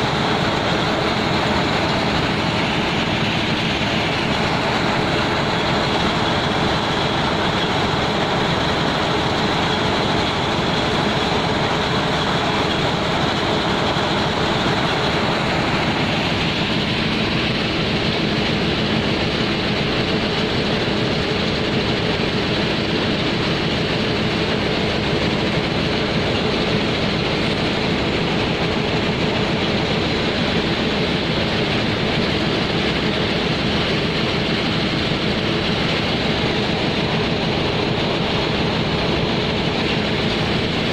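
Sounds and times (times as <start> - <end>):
heavy machinery humming: 0.0 - 40.9.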